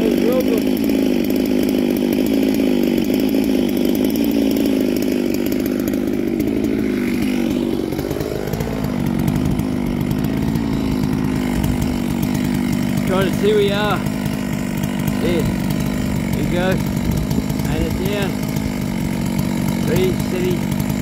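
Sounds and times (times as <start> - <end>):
chainsaw at full throttle: 0.0 - 21.0.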